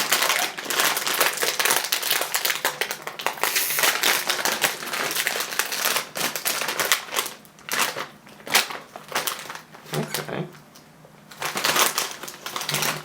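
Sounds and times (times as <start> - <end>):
chip bag crinkling: 0.0 - 13.0.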